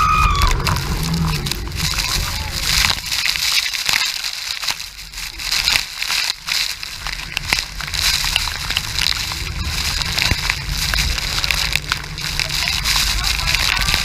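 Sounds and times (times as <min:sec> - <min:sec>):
water hitting microphone: 0:00.0 - 0:14.0
waterfall roaring: 0:00.0 - 0:14.0.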